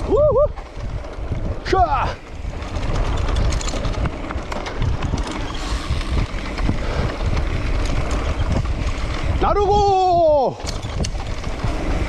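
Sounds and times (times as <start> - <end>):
bike clicking and rattling: 0.0 - 12.0
wind buffeting microphone: 0.0 - 12.0.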